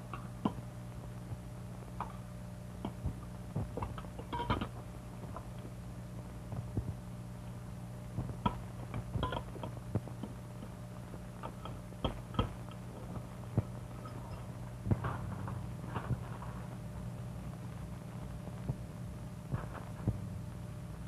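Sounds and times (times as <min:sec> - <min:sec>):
low film soundtrack hum: 0:00.0 - 0:21.0.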